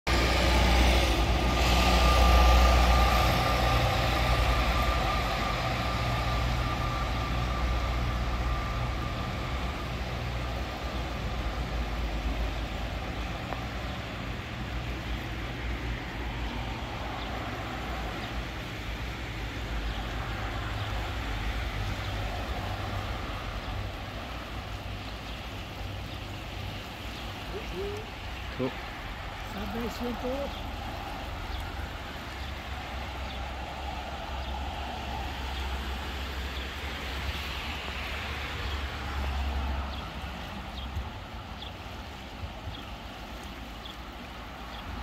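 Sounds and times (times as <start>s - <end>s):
floodwater rushing: 0.1s - 45.0s.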